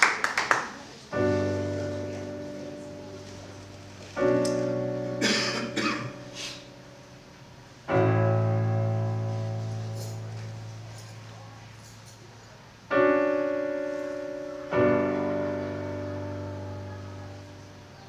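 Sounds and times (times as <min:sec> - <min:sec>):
digital piano chords: 0:01.1 - 0:18.0.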